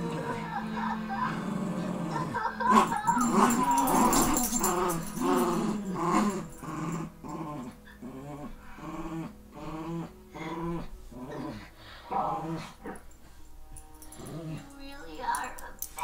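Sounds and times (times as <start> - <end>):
dogs growling in play: 0.0 - 15.2.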